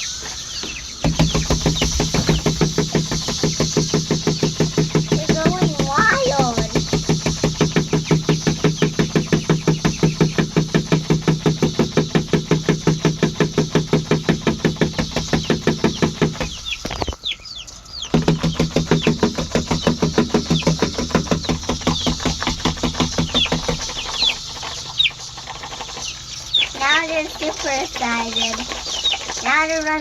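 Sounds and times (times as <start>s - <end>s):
chickens chirping: 0.0s - 30.0s
cicadas buzzing: 0.0s - 30.0s.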